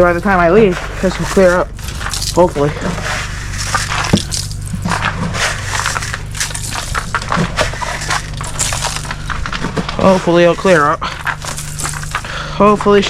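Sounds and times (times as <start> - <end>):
rock salt crunching on ice: 0.0 - 13.0
small tractor engine idling: 0.0 - 13.0.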